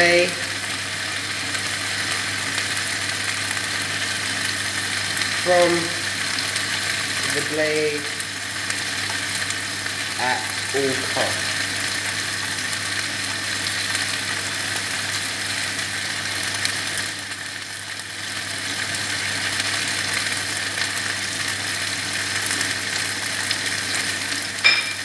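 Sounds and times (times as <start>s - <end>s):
food sizzling in a frying pan: 0.0s - 25.0s.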